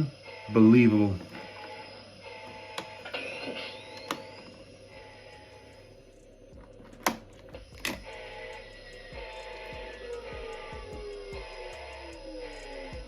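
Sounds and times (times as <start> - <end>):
rising electronic whine: 0.0 - 13.0
steady electronic hum: 0.0 - 13.0.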